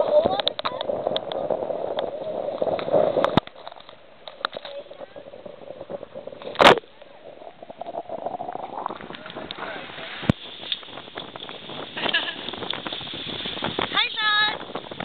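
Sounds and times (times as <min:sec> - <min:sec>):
rushing wind: 0:00.0 - 0:15.0
water rushing: 0:00.0 - 0:15.0.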